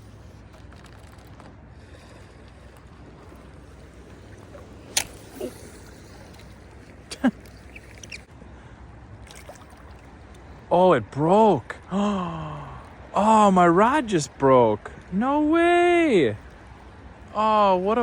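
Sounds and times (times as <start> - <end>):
river flowing: 0.0 - 18.0
wind: 0.0 - 18.0.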